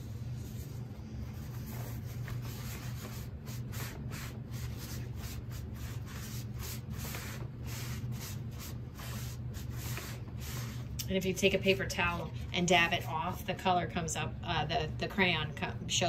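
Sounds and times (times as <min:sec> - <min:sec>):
paper towel rubbing wet paper: 0:00.0 - 0:13.2.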